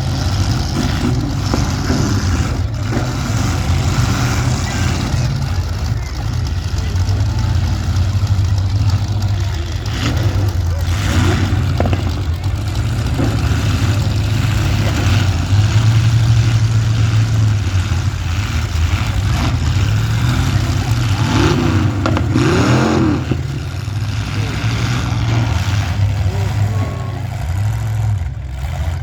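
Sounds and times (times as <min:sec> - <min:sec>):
car engines running loudly: 0:00.0 - 0:29.0
engines revving: 0:00.0 - 0:29.0.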